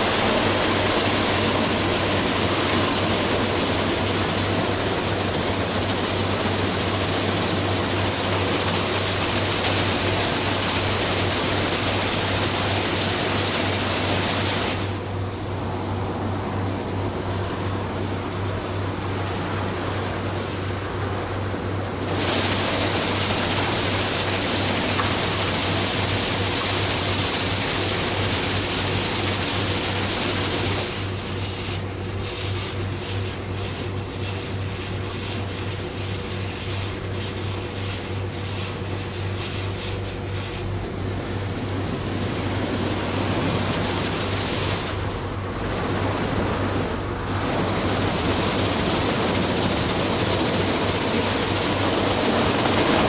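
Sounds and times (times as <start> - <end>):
machine hum: 0.0 - 53.0
pulsing washing noise: 0.0 - 53.0
water spraying onto car: 0.0 - 53.0.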